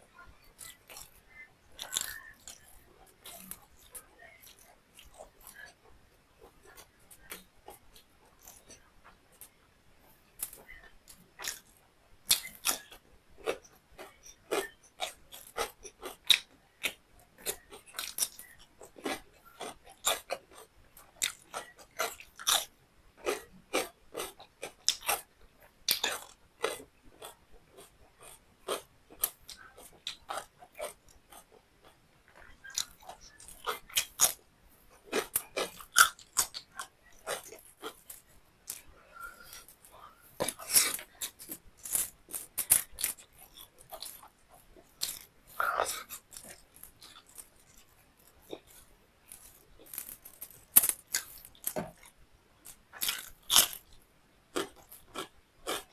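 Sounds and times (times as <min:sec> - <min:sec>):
chewing with mouth clicks: 0:00.5 - 0:05.8, 0:10.4 - 0:55.9.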